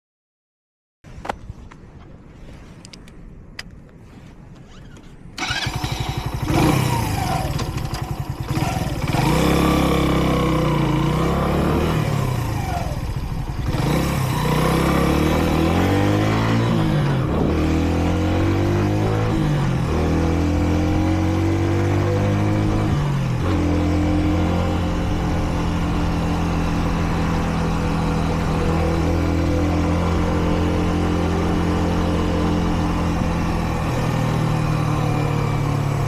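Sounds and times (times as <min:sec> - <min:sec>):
motorcycle engine revving and accelerating: 0:05.4 - 0:36.0.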